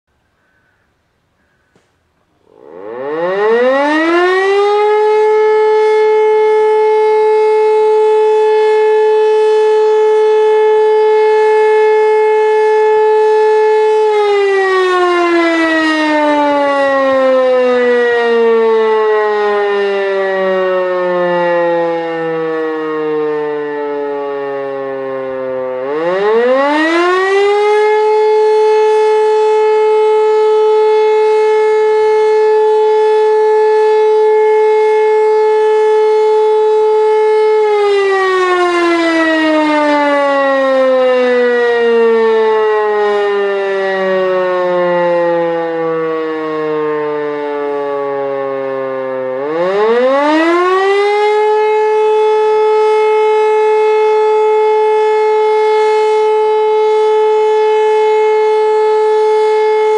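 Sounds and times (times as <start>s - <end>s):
siren howling: 1.7s - 59.9s.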